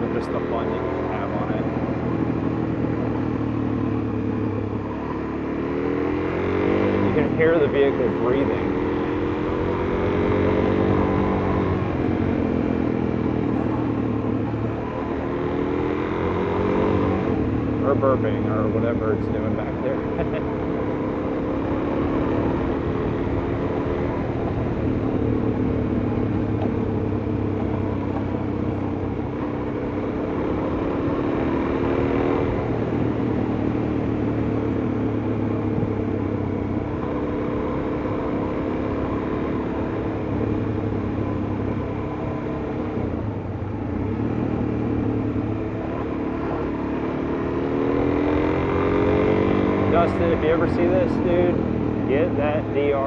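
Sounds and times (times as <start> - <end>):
motorcycle engine and exhaust: 0.0 - 53.0
wind and road noise: 0.0 - 53.0.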